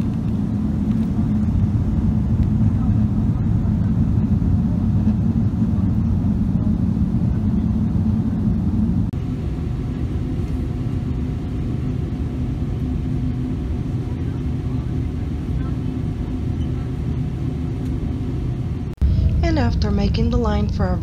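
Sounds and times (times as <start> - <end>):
jet engines droning: 0.0 - 21.0.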